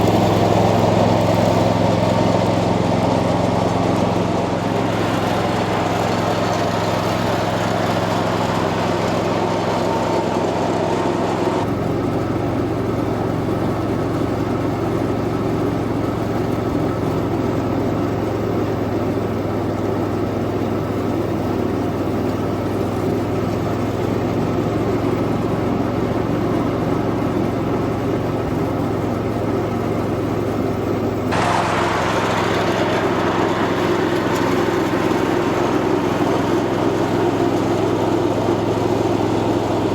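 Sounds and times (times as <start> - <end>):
garden tractor engine mowing: 0.0 - 39.9.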